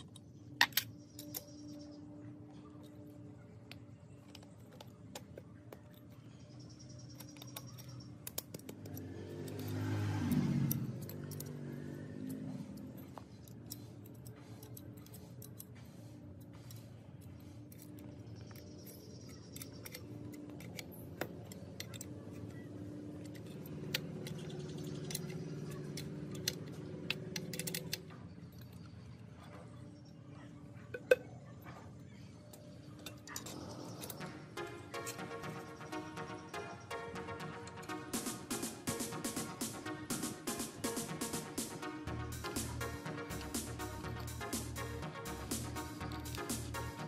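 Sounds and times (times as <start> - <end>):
metal tools clinking on steel: 0.0 - 40.3, 41.3 - 47.0.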